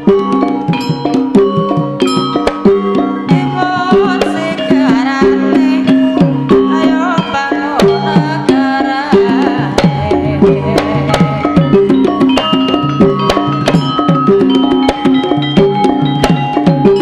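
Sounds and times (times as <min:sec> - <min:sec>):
hand drum strokes: 0:00.0 - 0:17.0
wavering melody line: 0:00.0 - 0:17.0.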